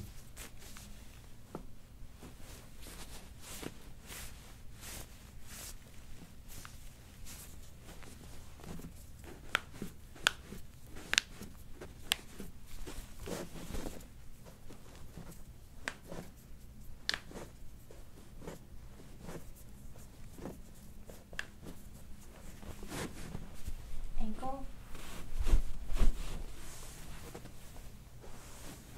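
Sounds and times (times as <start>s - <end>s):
hands rubbing socked feet: 0.0s - 23.9s
soft fabric rustling: 0.0s - 28.9s.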